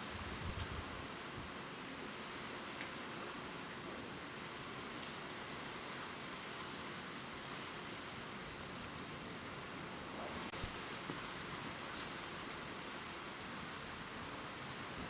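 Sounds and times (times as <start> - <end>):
rain pattering on leaves: 0.0 - 15.0.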